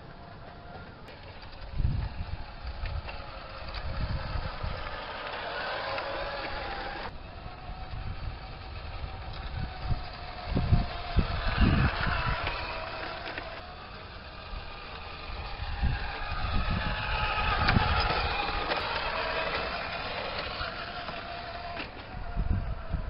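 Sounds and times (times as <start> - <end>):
model truck motor whine: 0.0 - 23.0.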